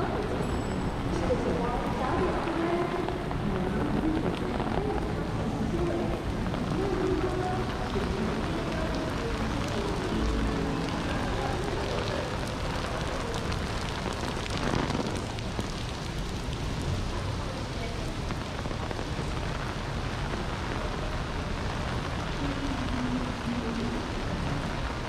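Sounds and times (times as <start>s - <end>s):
rain pattering on hard surfaces: 0.0s - 25.0s.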